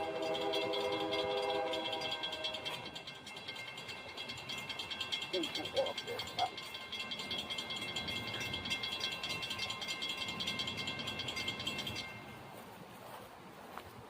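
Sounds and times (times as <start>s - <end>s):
railroad crossing bell ringing: 0.0s - 12.7s.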